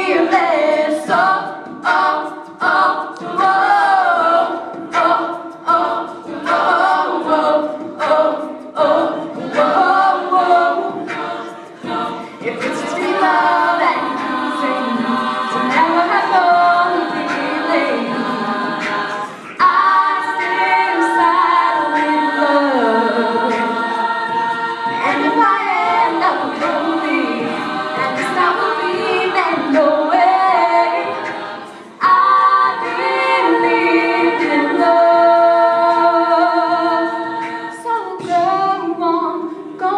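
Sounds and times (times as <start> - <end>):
female choir singing in harmony: 0.0 - 39.9.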